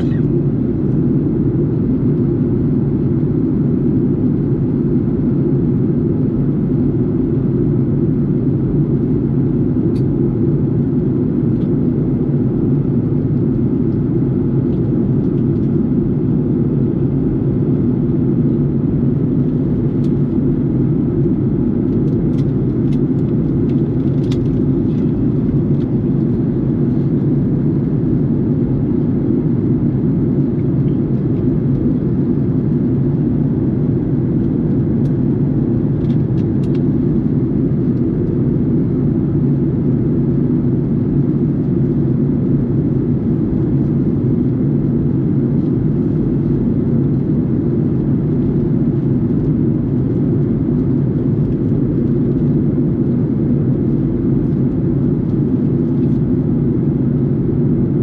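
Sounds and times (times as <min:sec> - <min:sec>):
jet airliner cabin noise: 0:00.0 - 0:58.0.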